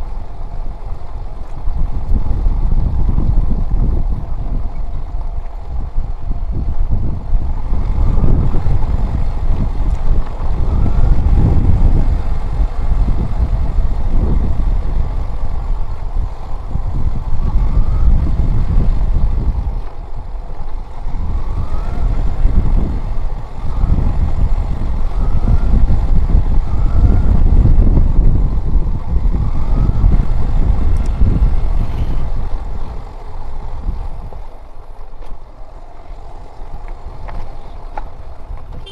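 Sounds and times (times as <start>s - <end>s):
engine rising whines: 0.0s - 38.9s
motorcycle engine rumble: 0.0s - 38.9s.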